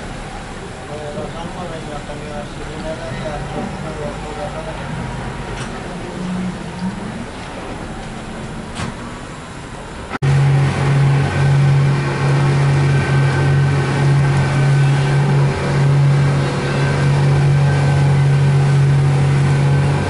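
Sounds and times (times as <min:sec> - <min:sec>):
boat engine droning: 0:00.0 - 0:20.0
water rushing past hull: 0:03.4 - 0:20.0.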